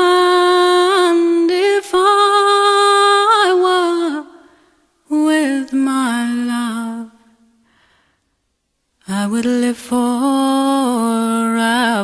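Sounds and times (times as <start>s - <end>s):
woman singing unaccompanied: 0.0s - 4.5s, 5.1s - 7.3s, 9.0s - 12.0s.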